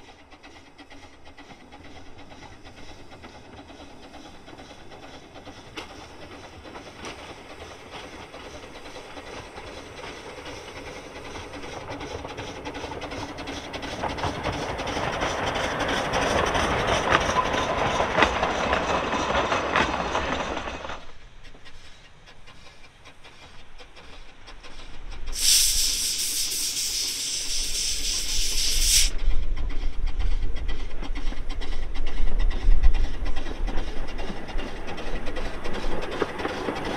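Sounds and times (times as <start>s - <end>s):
steam hissing: 0.0s - 36.9s
train wheels rattling on rail: 0.0s - 36.9s.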